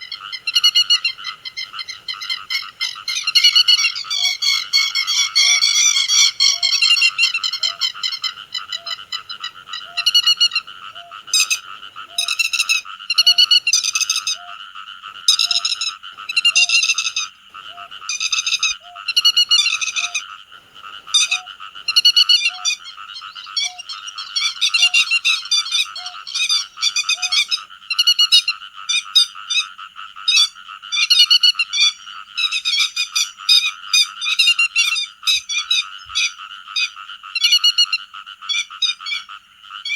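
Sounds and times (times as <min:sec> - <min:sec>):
lapwings calling: 0:00.0 - 0:14.6, 0:15.3 - 0:29.7, 0:30.3 - 0:39.3
dense bird chorus: 0:00.0 - 0:39.9.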